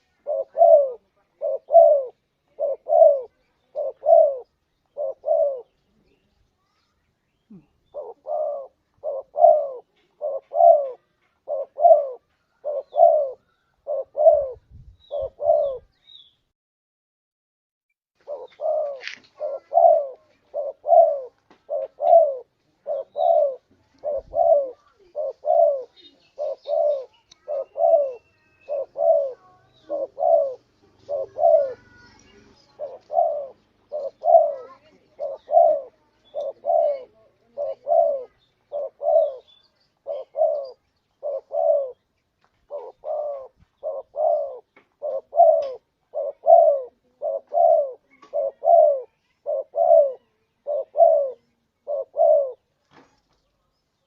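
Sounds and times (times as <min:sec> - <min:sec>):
dove cooing: 0:00.0 - 0:06.2, 0:07.5 - 0:16.0, 0:18.2 - 0:52.7.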